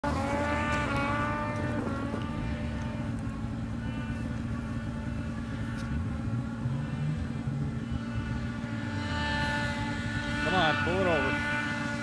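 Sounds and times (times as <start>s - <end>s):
snowmobile engine at high revs: 0.0s - 12.0s
steady low hum: 0.0s - 12.0s.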